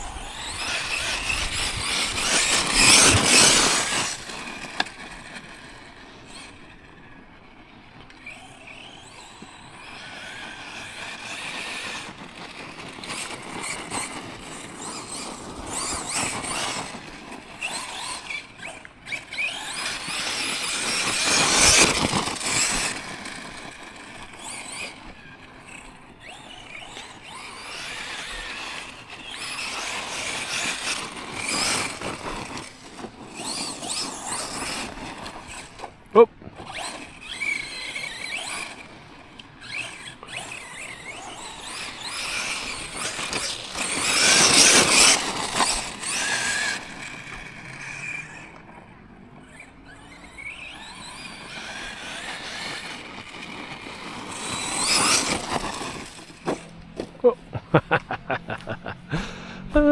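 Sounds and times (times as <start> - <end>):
rc truck motor whining: 0.0 - 59.9
tyres scrabbling over rough ground: 0.0 - 59.9.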